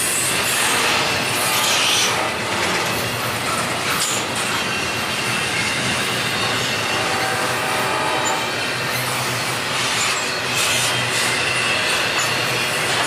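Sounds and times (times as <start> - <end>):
train wheels rolling on rails: 0.0 - 13.0
high wheel squeal: 0.5 - 13.0.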